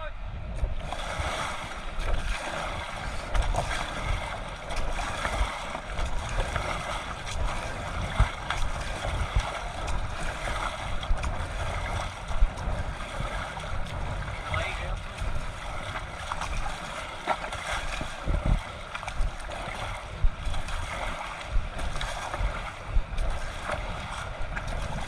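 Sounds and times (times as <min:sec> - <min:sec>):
wind buffeting microphone: 0:00.0 - 0:25.0
river water rushing: 0:00.8 - 0:25.0.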